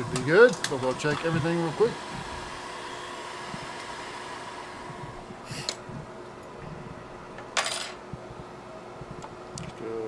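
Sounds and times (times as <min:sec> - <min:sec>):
bench fan whirring: 0:00.0 - 0:10.0
faint steady hum: 0:00.0 - 0:10.0.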